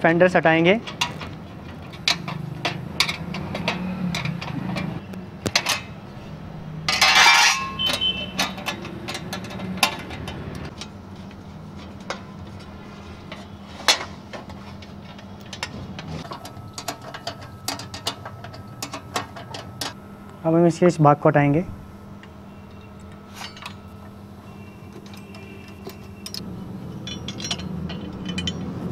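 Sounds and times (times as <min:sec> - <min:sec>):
spanners clinking on bolts: 0:00.8 - 0:06.0, 0:06.9 - 0:12.7, 0:13.3 - 0:20.0, 0:22.2 - 0:28.9.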